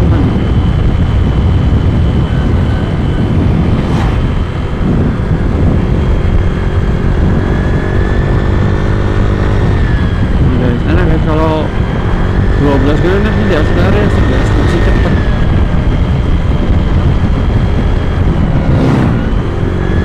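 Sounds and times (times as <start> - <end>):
motorcycle engine drone: 0.0 - 20.0
wind rush on microphone: 0.0 - 20.0.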